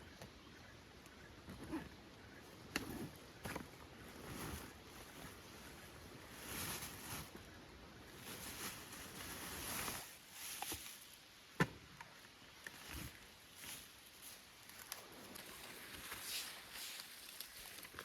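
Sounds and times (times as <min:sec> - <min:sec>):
camp gear rustling: 0:01.1 - 0:11.3, 0:11.9 - 0:18.0.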